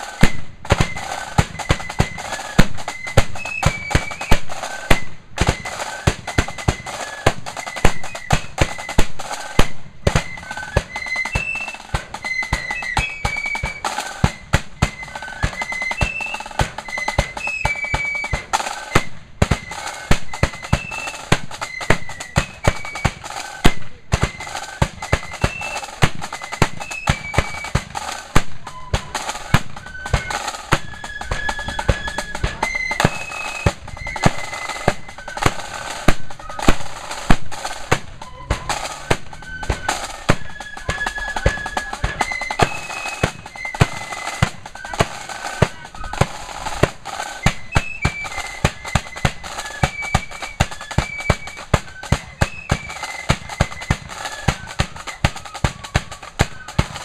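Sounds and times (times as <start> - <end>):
flutes playing quick melody: 0.0 - 57.0
snare drum beats: 0.0 - 57.0.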